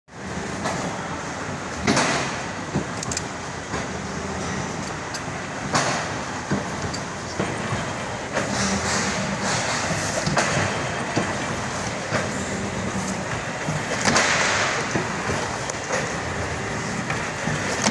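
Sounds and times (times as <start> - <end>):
steady machine hum: 0.1 - 17.9.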